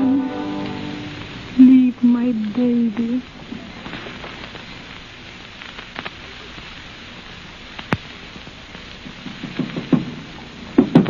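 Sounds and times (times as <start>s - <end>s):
radio recording hiss and crackle: 0.0s - 11.0s.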